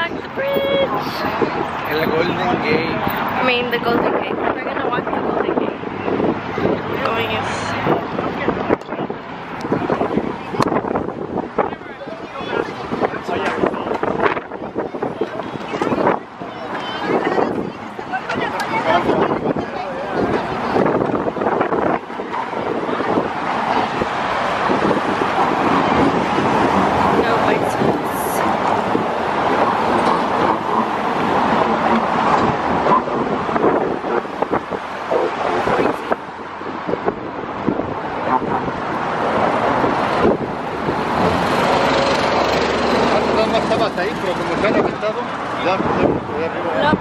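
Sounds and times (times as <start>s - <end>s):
road traffic passing: 0.0s - 47.0s
wind buffeting microphone: 0.0s - 47.0s.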